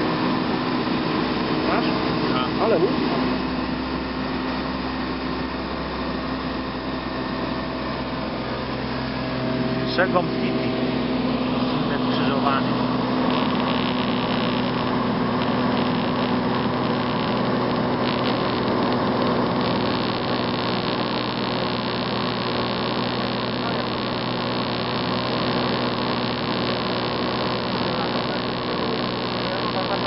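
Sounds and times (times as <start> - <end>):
aircraft engine and propeller droning: 0.0 - 30.0.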